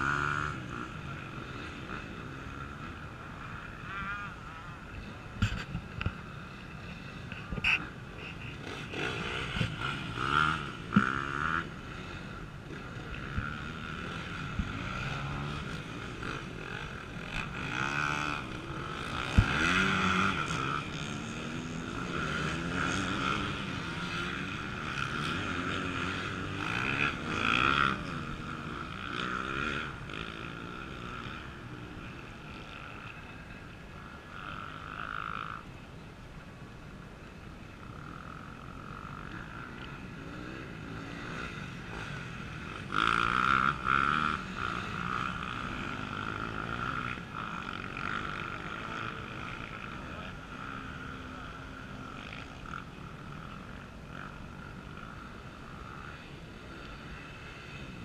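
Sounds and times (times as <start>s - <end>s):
dirt bike engines revving: 0.0s - 58.0s
distant bikes running: 0.0s - 58.0s.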